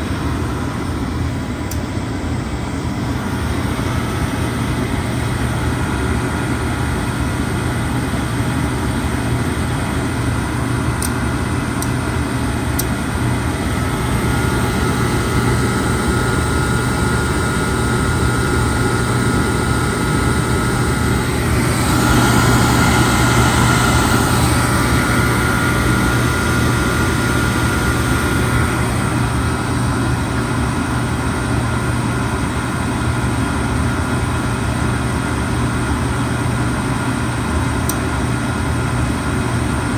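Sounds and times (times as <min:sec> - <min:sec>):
high steady whine: 0:00.0 - 0:39.9
oil furnace burner humming: 0:00.0 - 0:39.9.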